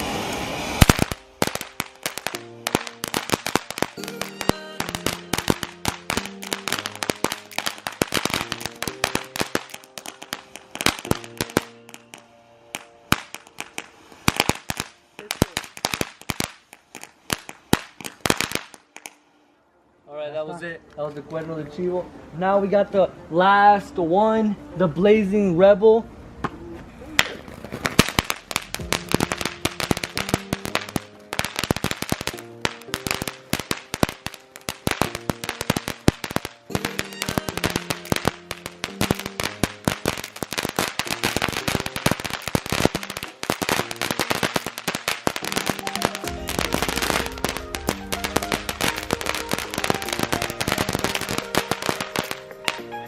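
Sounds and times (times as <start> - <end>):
background music: 0.0 - 18.8, 27.9 - 53.0
firecracker pops: 0.0 - 19.2, 27.2 - 53.0.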